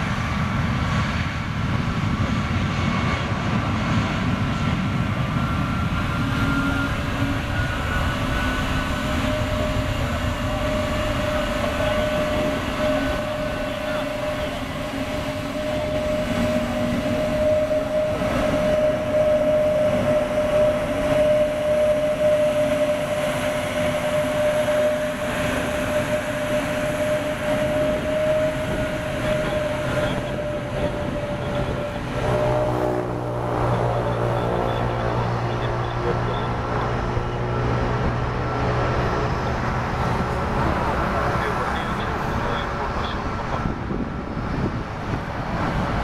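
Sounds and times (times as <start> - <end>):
jet engines whining: 0.0 - 46.0
low buzzing drone: 0.0 - 46.0.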